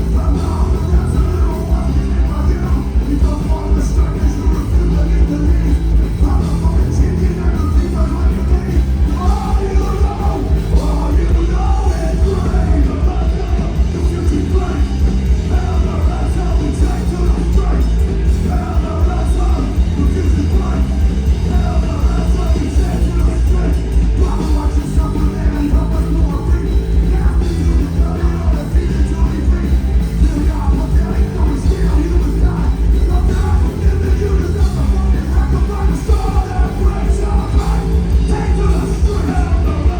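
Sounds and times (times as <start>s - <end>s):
live rock band playing: 0.0s - 39.9s
singer shouting vocals: 0.0s - 39.9s.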